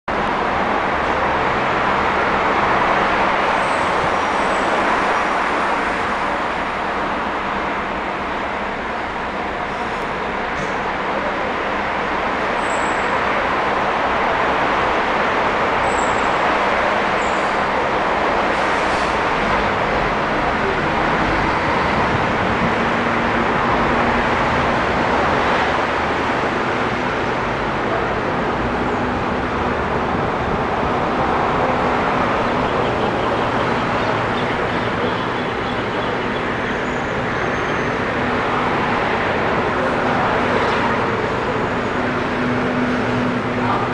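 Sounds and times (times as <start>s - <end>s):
traffic noise: 0.0s - 43.9s.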